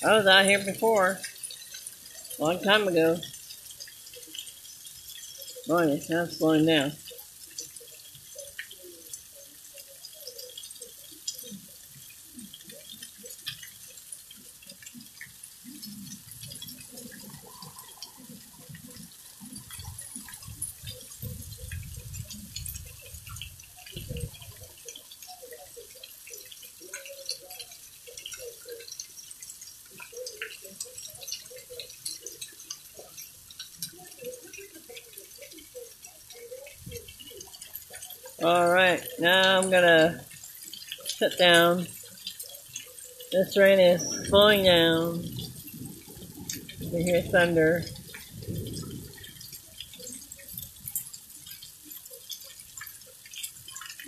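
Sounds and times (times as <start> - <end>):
drips and splashes: 0.0 - 54.0
rain hiss: 0.0 - 54.0.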